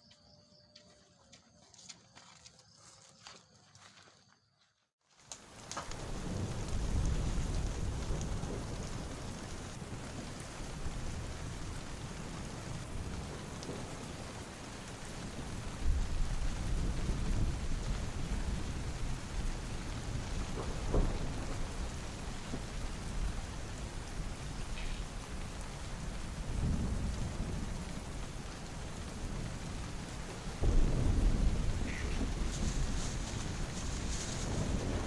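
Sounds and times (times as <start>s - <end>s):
heavy rain falling: 5.2s - 35.0s
thunder rumbling: 5.8s - 35.0s.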